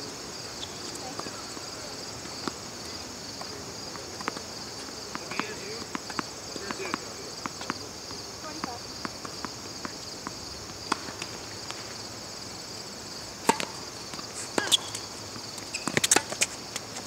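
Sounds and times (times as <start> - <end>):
insects chirring: 0.0 - 17.0
racket hitting tennis ball: 0.6 - 12.0, 13.4 - 16.8
tennis ball bouncing on court: 0.6 - 12.0, 13.4 - 16.8.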